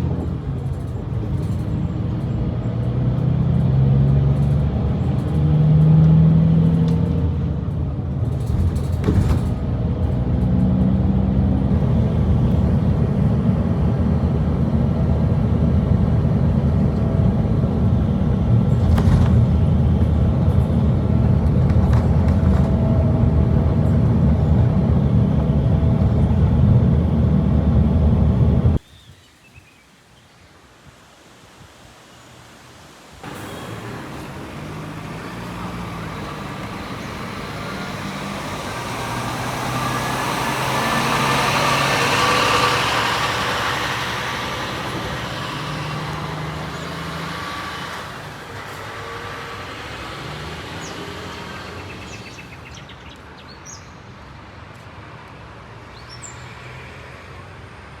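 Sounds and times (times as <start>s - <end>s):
bus diesel engine passing: 0.0s - 28.8s, 33.2s - 58.0s
quiet traffic background: 0.0s - 58.0s.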